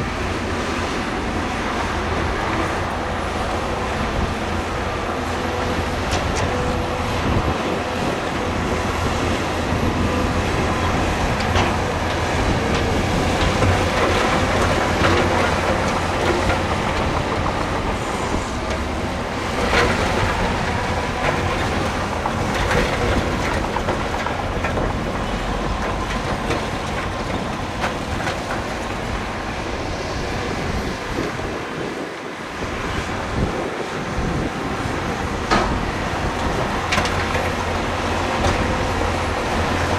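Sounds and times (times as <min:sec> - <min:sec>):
diesel engine running: 0:00.0 - 0:39.9
metallic clatter of steel tracks: 0:00.0 - 0:39.9.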